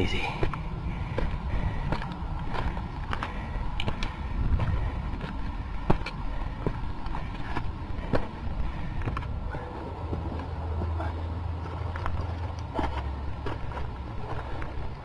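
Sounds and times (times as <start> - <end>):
footsteps on rocky trail: 0.0 - 15.0
wind rumbling on microphone: 0.0 - 15.0.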